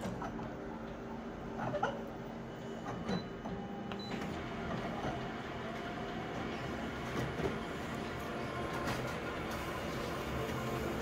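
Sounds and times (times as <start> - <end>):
photocopier running: 0.0 - 11.0.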